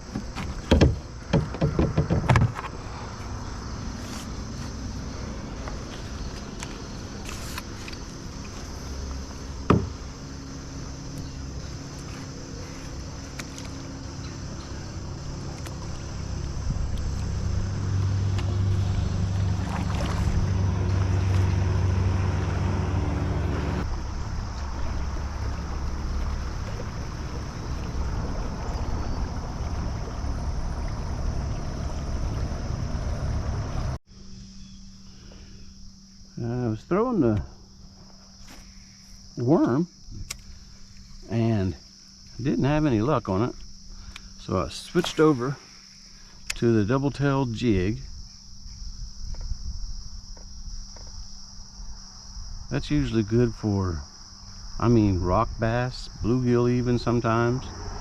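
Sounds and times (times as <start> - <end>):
small boat motor humming: 0.0 - 47.0.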